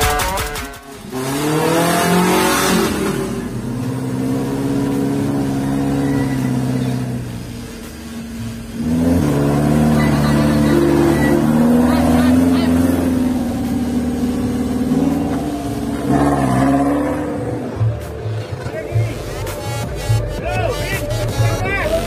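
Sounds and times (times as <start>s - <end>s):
pickup engine revving: 0.0s - 22.0s.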